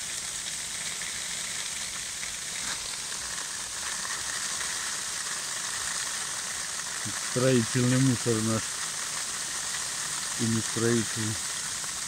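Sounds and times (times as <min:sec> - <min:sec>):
hail and rain falling: 0:00.0 - 0:12.0.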